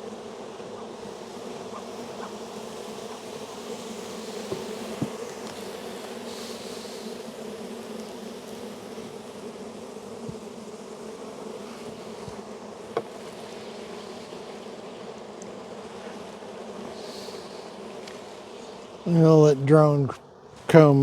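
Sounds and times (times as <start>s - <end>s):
honey bees humming: 0.0s - 21.0s.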